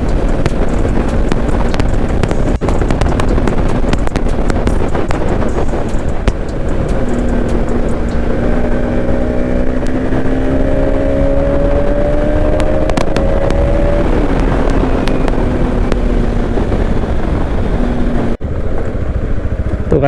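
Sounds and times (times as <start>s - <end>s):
motorcycle engine running: 0.0s - 20.0s
road rumble: 0.0s - 20.0s
wind: 0.0s - 20.0s.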